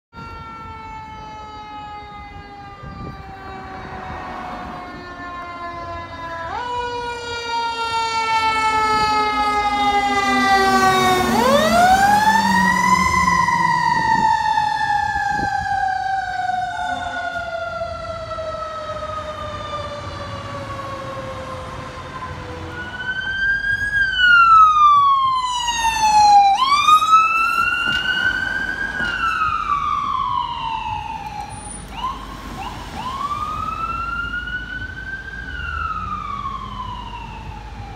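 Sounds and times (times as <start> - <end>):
ambulance siren wailing: 0.1 - 37.9
fire engine siren wailing: 0.1 - 37.9.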